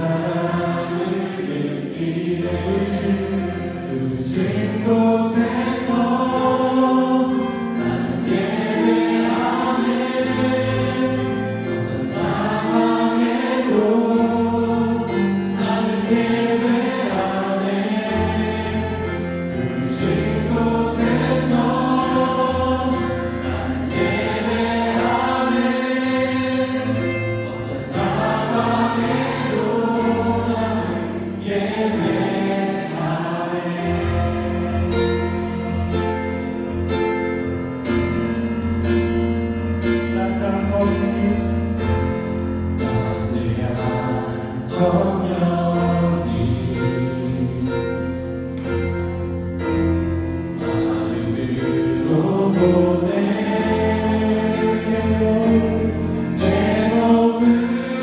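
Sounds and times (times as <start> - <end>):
group of voices singing: 0.0 - 38.8, 40.1 - 58.0
instrumental accompaniment: 0.0 - 58.0.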